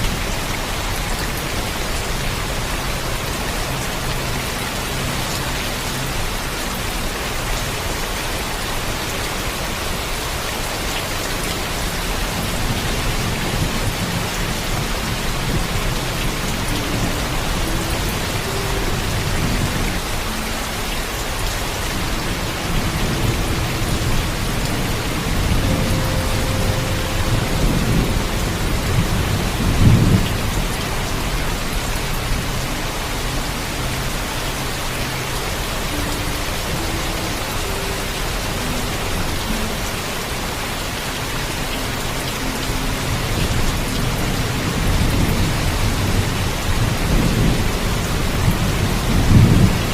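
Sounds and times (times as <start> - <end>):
heavy rainfall: 0.0 - 49.9.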